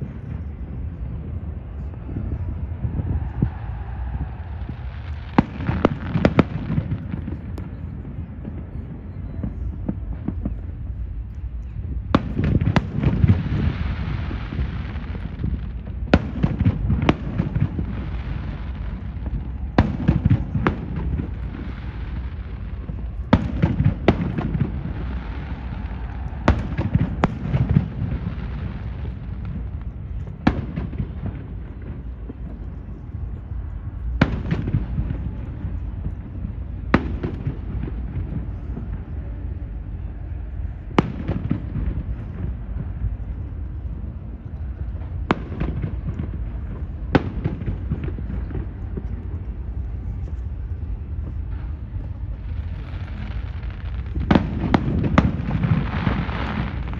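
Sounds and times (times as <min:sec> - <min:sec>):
fireworks bangs: 0:00.0 - 0:56.9.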